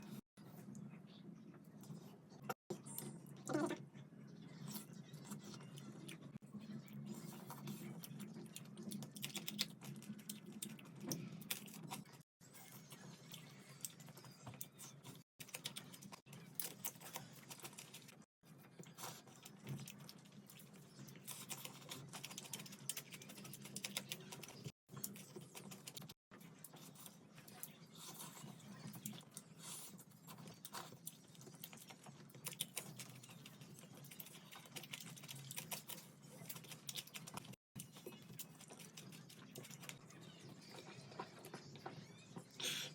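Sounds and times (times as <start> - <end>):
wet chewing sounds: 4.4 - 42.4.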